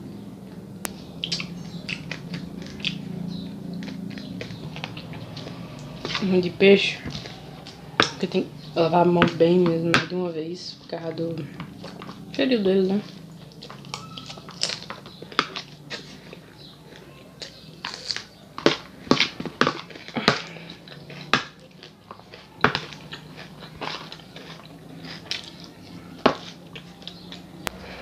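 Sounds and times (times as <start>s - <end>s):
chewing: 0.5s - 8.8s, 11.4s - 27.9s.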